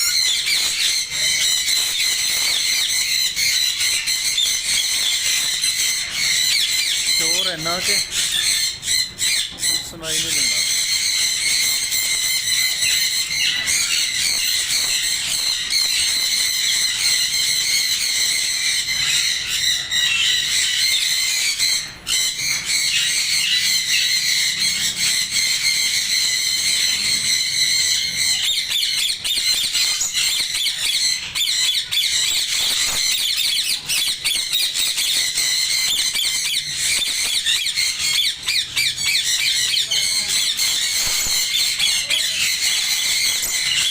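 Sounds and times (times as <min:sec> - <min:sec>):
parrots screeching and chattering: 0:00.0 - 0:43.9.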